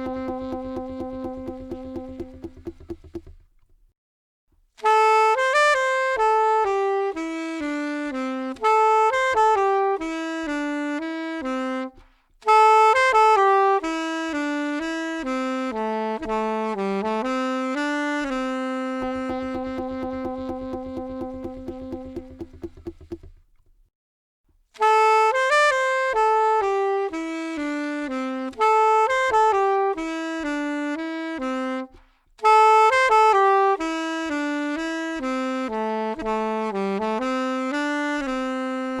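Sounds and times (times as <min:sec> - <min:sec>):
solo saxophone melody: 0:00.0 - 0:03.8, 0:04.8 - 0:23.8, 0:24.7 - 0:39.0.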